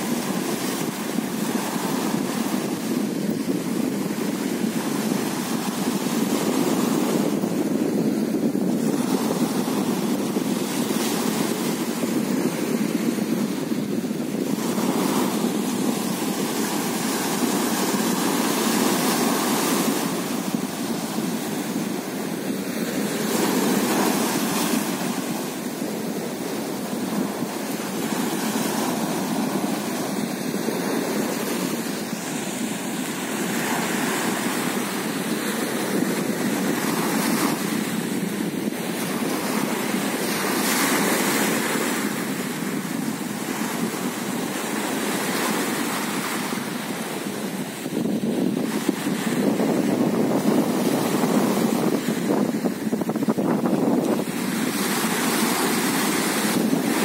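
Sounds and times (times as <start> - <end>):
waves washing up a beach: 0.0 - 57.0.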